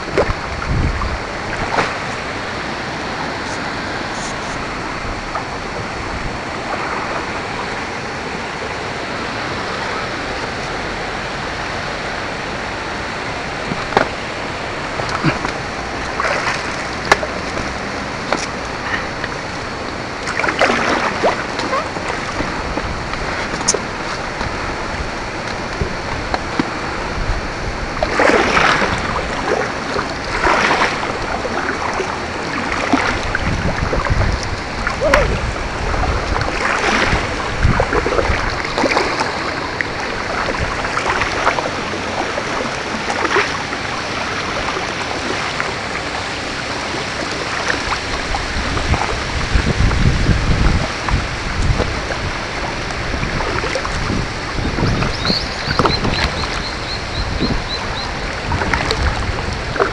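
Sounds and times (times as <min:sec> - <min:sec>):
kayak paddle splashing: 0:00.0 - 0:59.9
moving water: 0:00.0 - 0:59.9.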